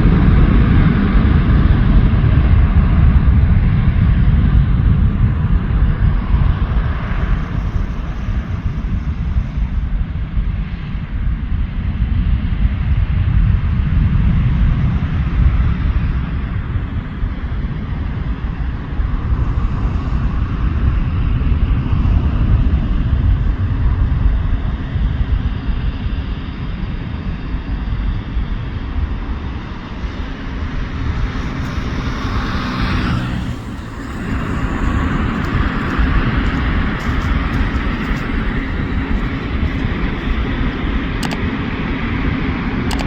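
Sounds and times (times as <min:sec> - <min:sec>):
jet engines roaring: 0:00.0 - 0:11.9, 0:13.5 - 0:43.0.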